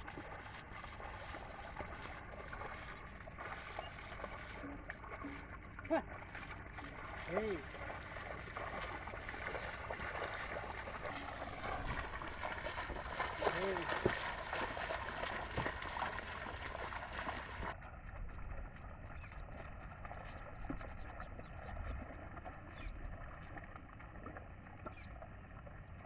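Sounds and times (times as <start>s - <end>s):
water and mud sloshing: 0.0s - 26.0s.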